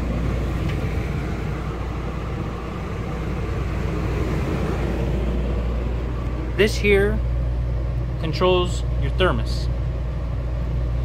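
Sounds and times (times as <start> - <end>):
air conditioner fan rushing: 0.0 - 11.0
low hum of air conditioner: 0.0 - 11.0.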